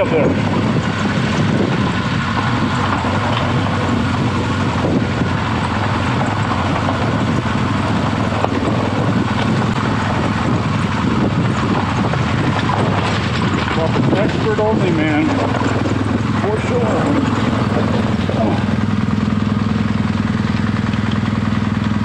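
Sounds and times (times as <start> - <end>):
motorcycle engine running: 0.0 - 22.0
noisy rush: 0.0 - 22.0.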